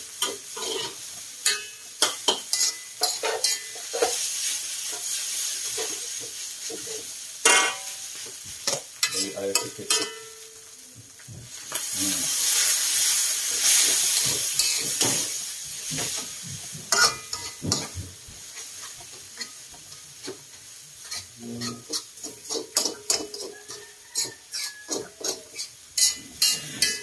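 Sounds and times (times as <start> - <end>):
loud sizzle in a wok: 0.0 - 27.0
metal utensil scraping a wok: 0.1 - 10.6, 11.6 - 27.0.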